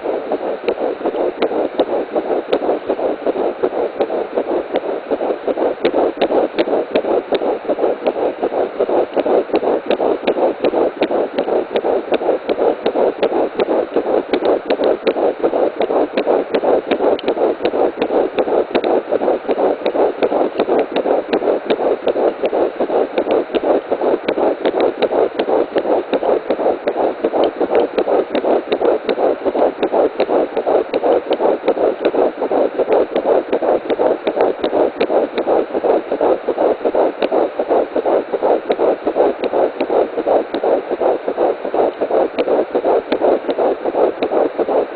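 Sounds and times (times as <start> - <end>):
doppler fetal heartbeat: 0.0 - 44.9.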